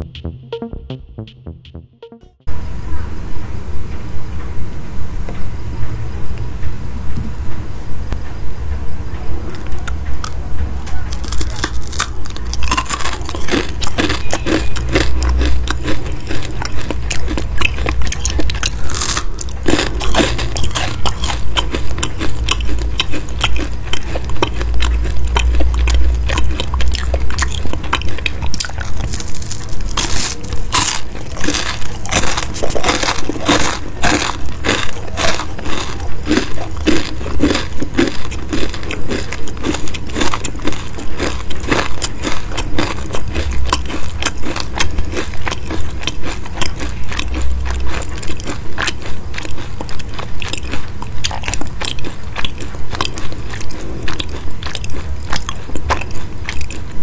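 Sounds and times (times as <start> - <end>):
crunchy chewing: 9.5 - 57.0
loud crackling crunches: 11.1 - 57.0.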